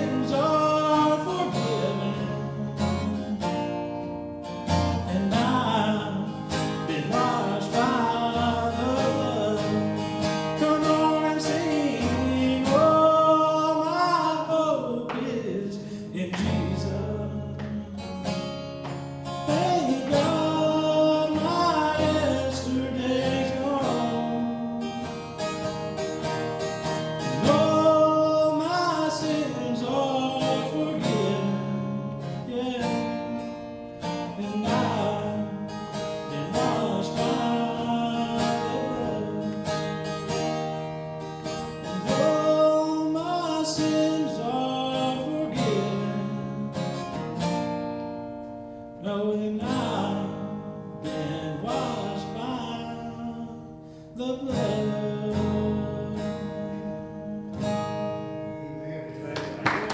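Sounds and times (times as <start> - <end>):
man singing: 0.0 - 3.8, 4.8 - 18.2, 19.4 - 24.8, 27.3 - 39.9, 41.8 - 46.9, 49.0 - 57.8
acoustic guitar strumming: 0.0 - 59.9.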